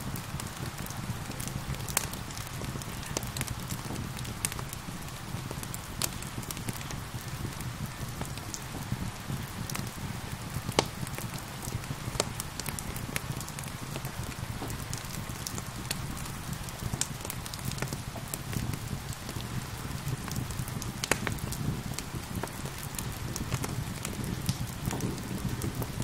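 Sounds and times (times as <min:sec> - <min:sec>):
steady rain: 0:00.0 - 0:26.0
wood fire crackling and popping: 0:00.0 - 0:26.0.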